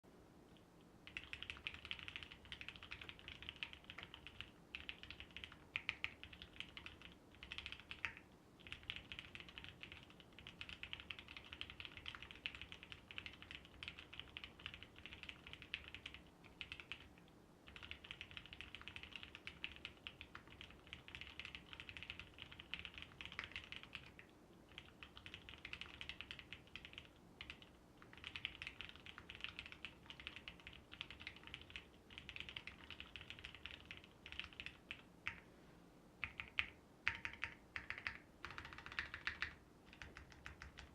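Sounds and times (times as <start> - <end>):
mechanical keyboard typing: 1.0 - 35.4, 36.2 - 40.9.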